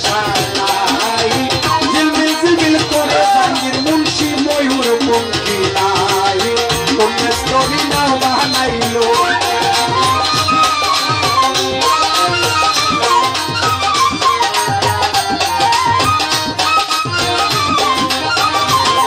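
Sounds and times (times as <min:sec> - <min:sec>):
hand percussion: 0:00.0 - 0:19.0
wavering folk melody: 0:00.0 - 0:19.0.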